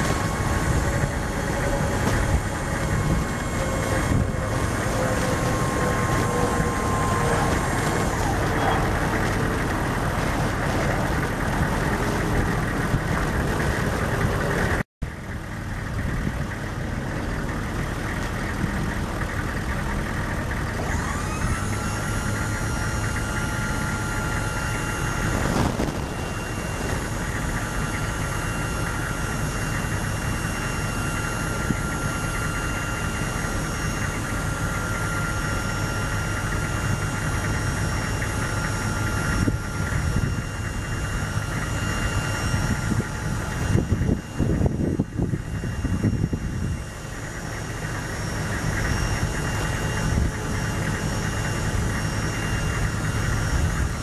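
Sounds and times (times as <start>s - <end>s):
diesel engine idling: 0.0s - 54.0s
high whine: 0.0s - 54.0s.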